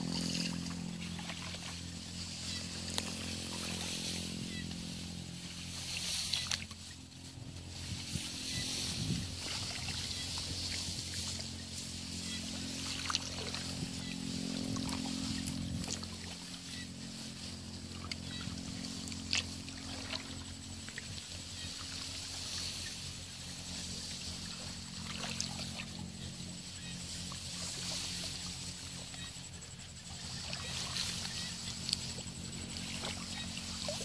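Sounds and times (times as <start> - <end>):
small motor humming: 0.0 - 34.0.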